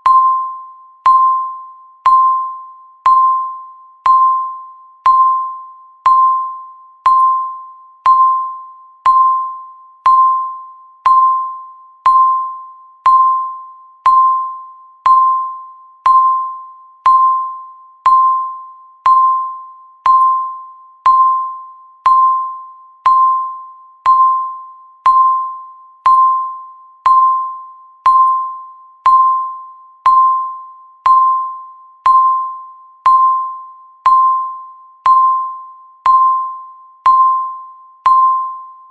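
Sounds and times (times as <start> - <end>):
timer chime: 0.0 - 38.9.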